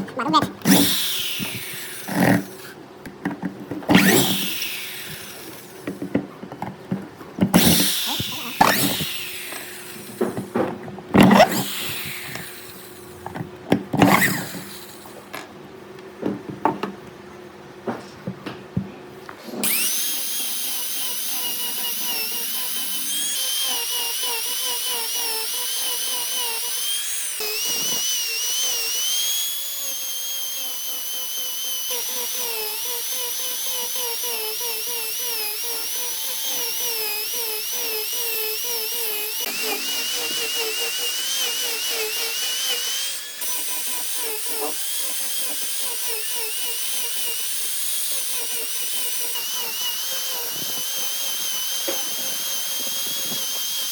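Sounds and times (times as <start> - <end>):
electric power tool whining: 0.0 - 15.6, 19.3 - 53.9.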